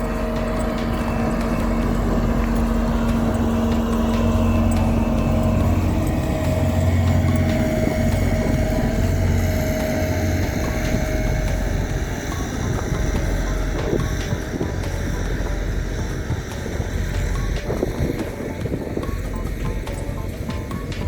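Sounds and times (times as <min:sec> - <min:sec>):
diesel engines of paving machinery: 0:00.0 - 0:21.0.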